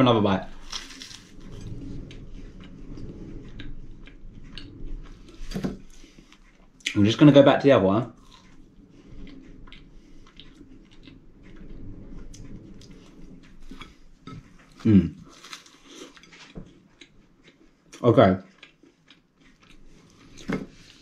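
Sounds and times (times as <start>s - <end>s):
chewing flaky pastry: 0.1s - 7.3s, 8.0s - 21.0s.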